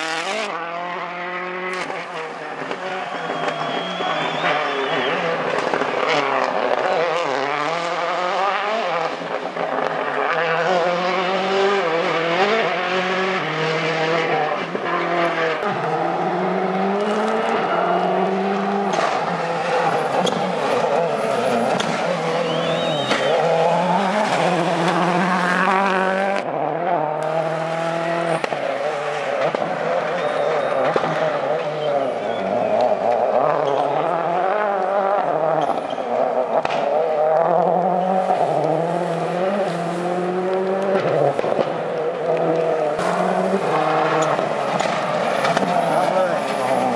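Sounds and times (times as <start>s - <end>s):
rally car engines revving: 0.0s - 46.9s.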